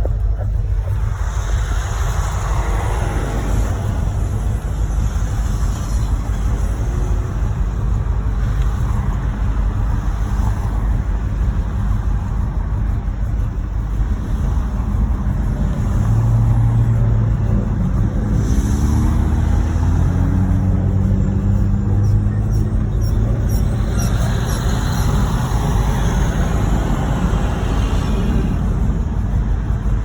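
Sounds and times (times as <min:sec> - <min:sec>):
car engine with knocking: 0:00.0 - 0:30.0
road noise inside car: 0:00.0 - 0:30.0.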